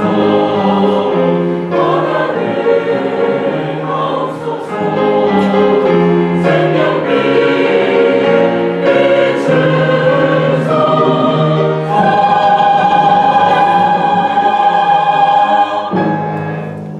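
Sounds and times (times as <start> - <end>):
church choir singing: 0.0 - 16.8.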